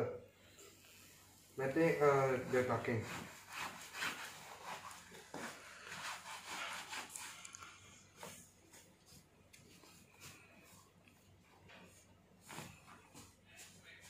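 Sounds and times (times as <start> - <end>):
bed sheet rustling: 1.7 - 7.4, 8.0 - 14.0.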